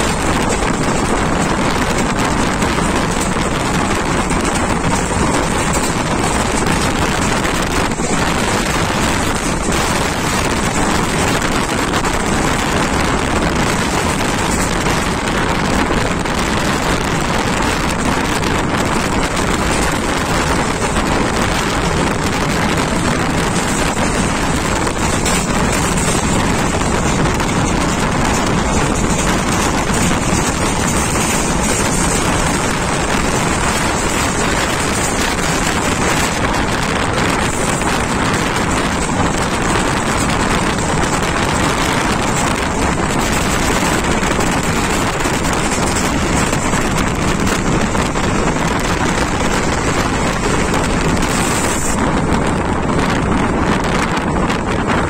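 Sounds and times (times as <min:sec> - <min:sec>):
train rushing at speed: 0:00.0 - 0:55.0
wind buffeting microphone: 0:00.0 - 0:55.0.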